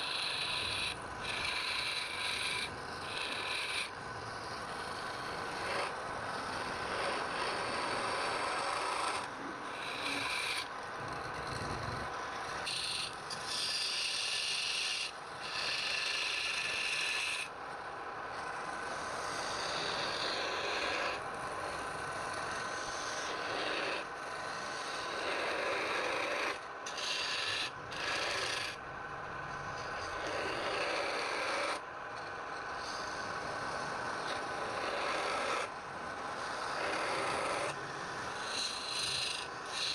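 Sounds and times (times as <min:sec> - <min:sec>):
tool scraping spinning wood: 0:00.0 - 0:17.5, 0:18.3 - 0:28.8, 0:29.5 - 0:39.9.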